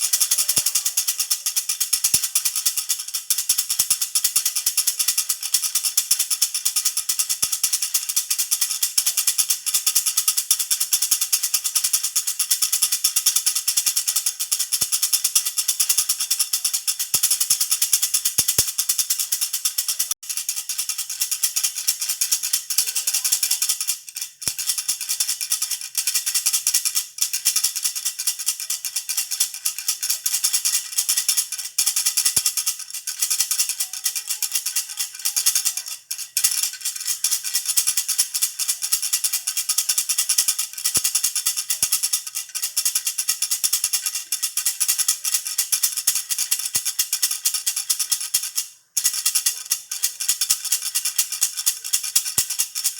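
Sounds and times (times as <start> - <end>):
baby rattle jingling: 0.0 - 52.9.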